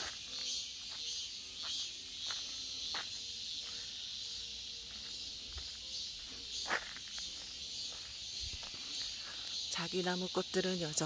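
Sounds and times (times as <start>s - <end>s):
footsteps on dirt path: 0.0s - 10.2s
insects chirping: 0.0s - 11.0s.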